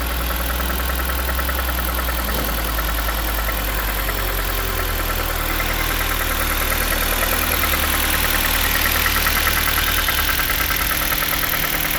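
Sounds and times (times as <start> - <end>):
car engine idling with ticking: 0.0 - 11.9.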